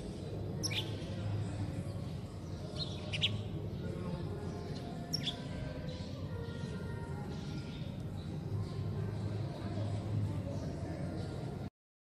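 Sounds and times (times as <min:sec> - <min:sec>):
birds chirping: 0:00.0 - 0:11.7.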